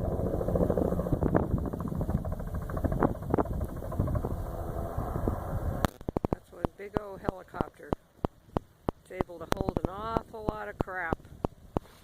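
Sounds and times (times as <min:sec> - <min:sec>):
helicopter rotor chopping: 0:00.0 - 0:11.8
wind buffeting microphone: 0:00.0 - 0:11.9.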